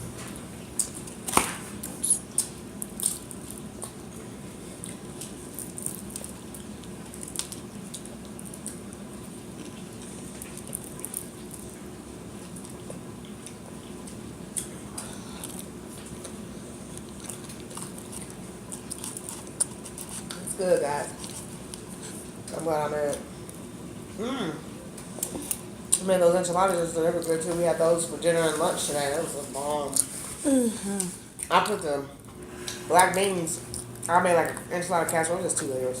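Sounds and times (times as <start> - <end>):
steady low hum: 0.0 - 36.0
people chewing food: 0.1 - 31.8, 32.5 - 36.0.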